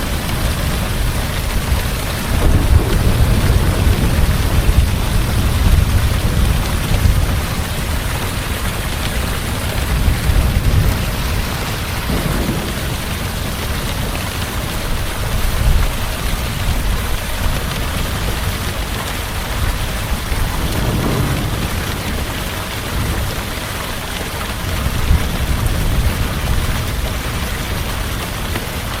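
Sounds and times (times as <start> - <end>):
low rumble of thunder: 0.0 - 28.6
heavy rain falling: 0.0 - 29.0.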